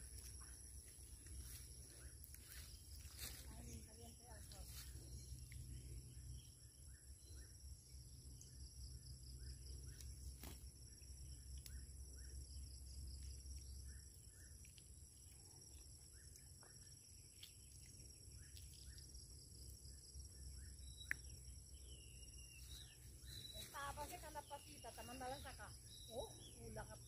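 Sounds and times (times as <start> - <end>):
insect chirring: 0.0 - 27.0.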